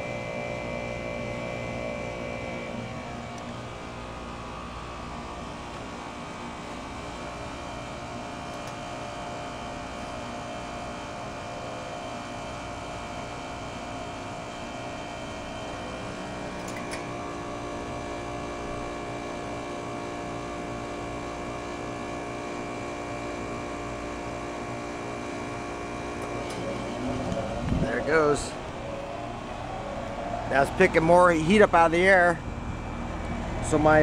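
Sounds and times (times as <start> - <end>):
compressor humming: 0.0 - 34.0.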